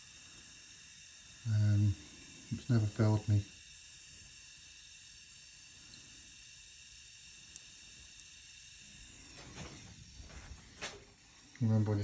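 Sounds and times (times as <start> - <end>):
heating tool hissing: 0.0 - 12.0.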